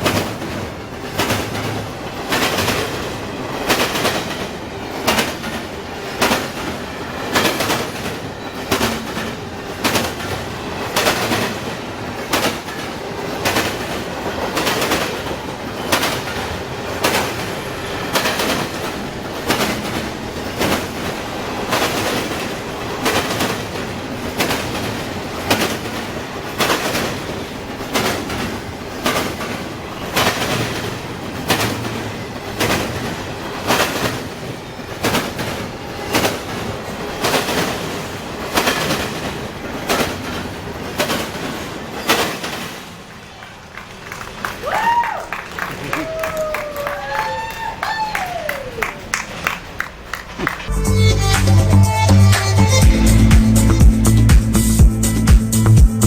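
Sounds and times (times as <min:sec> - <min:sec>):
train wheels clacking over rail joints: 0:00.0 - 0:50.7.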